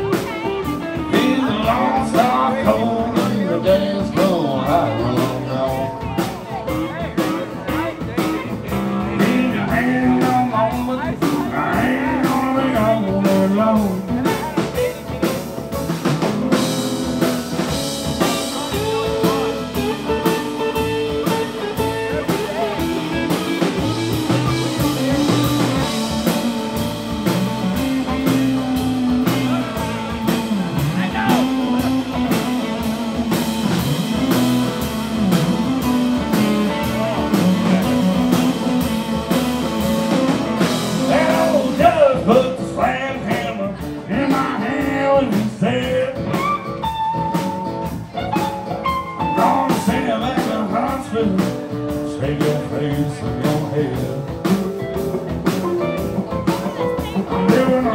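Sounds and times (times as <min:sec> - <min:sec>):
drum kit steady beat: 0:00.0 - 0:57.9
electric guitars: 0:00.0 - 0:57.9.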